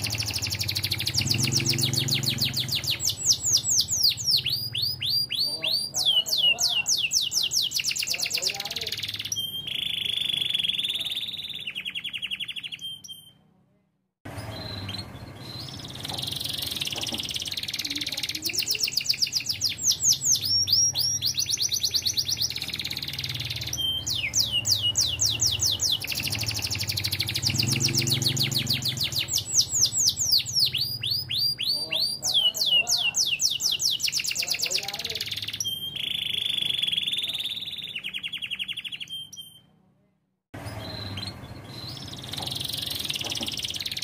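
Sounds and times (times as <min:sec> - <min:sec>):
canary singing trills: 0:00.0 - 0:13.4, 0:14.3 - 0:39.8, 0:40.6 - 0:44.0.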